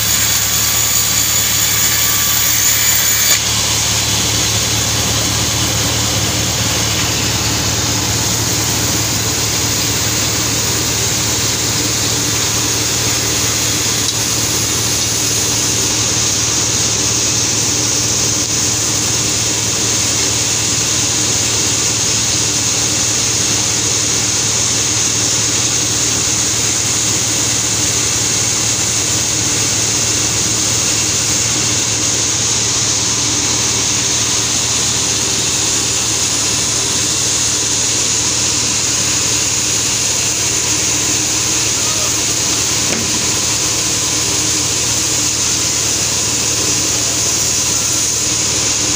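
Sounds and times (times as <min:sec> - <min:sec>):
saw machinery low hum: 0:00.0 - 0:23.9, 0:25.9 - 0:48.9
saw high whine: 0:00.0 - 0:48.9.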